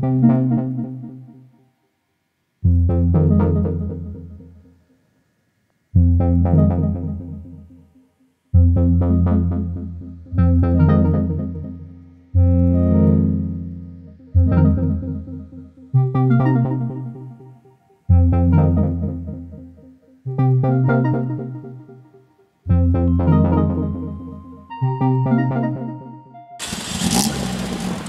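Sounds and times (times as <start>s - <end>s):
slow keyboard chords: 0.0s - 1.7s, 2.6s - 4.9s, 5.9s - 26.6s.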